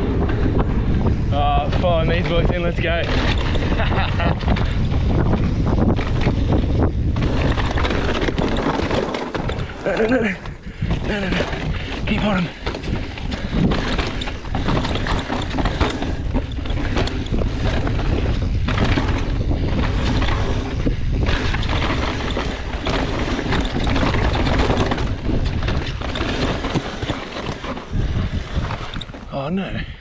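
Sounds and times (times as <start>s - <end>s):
bike clattering over bumps: 0.0s - 29.4s
tyre rumble on dirt: 0.0s - 29.4s
wind noise on microphone: 0.0s - 30.0s.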